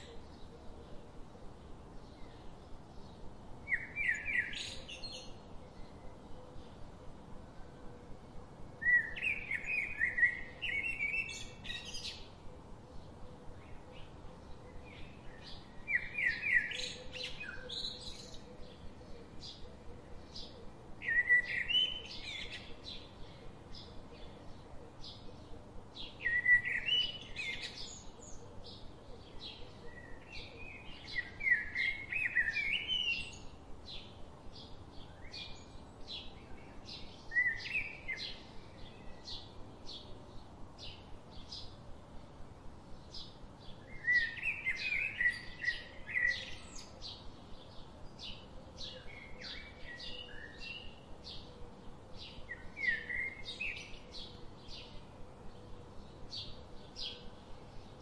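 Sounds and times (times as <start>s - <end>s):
bird warbling song: 2.0s - 6.9s, 8.8s - 41.9s, 42.9s - 58.0s.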